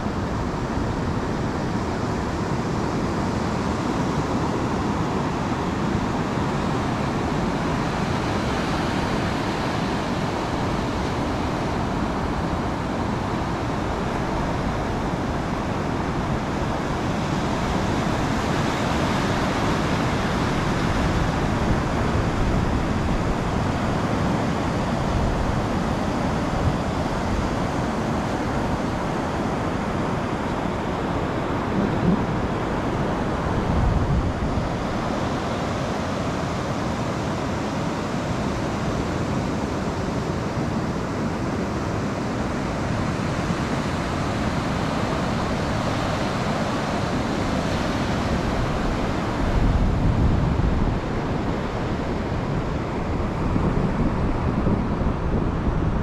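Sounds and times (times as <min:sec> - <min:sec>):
ocean surf breaking on beach: 0:00.0 - 0:56.0
wind buffeting microphone: 0:00.0 - 0:56.0.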